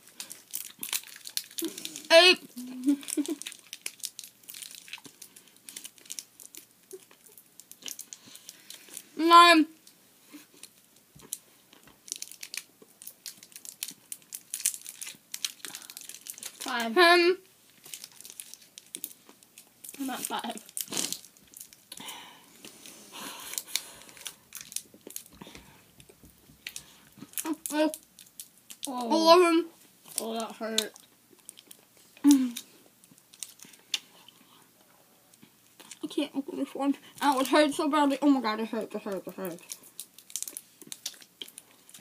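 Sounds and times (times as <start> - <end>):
candy wrappers crinkling: 0.0 - 34.4, 35.3 - 42.0.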